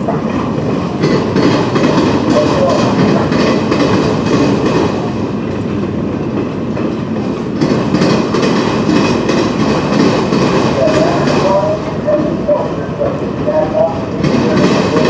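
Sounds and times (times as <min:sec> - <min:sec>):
train rumble: 0:00.0 - 0:15.0
train wheels clacking over joints: 0:00.0 - 0:15.0.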